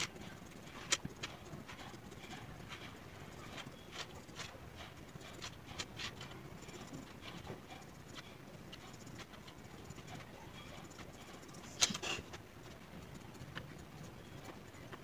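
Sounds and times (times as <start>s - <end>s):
low room hum: 0.0s - 15.0s
pencil scratching on paper: 0.0s - 15.0s.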